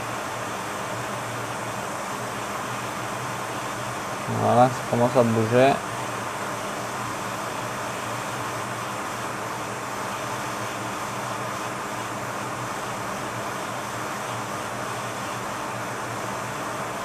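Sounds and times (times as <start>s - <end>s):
hot air blower hissing: 0.0s - 17.0s.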